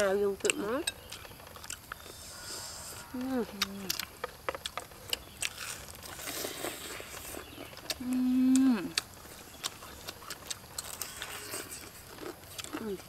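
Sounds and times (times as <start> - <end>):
fried chicken being chewed: 0.4 - 13.0.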